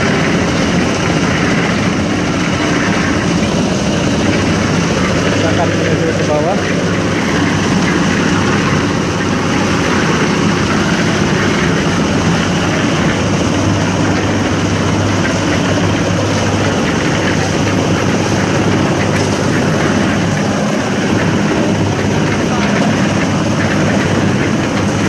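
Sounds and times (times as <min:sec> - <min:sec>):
concrete mixer engine droning: 0:00.0 - 0:25.0.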